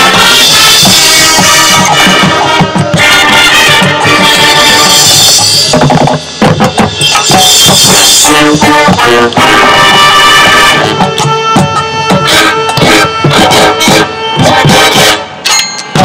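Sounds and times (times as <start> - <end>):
marching band playing: 0.0 - 16.0
sharp drum hits: 0.0 - 16.0.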